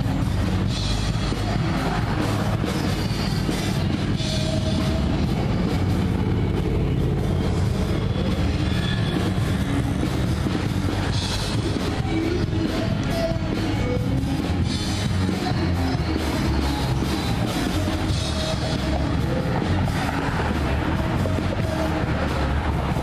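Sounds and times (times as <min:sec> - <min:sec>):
passing traffic rumble: 0:00.0 - 0:23.0
rock music with drums and guitar: 0:00.0 - 0:23.0.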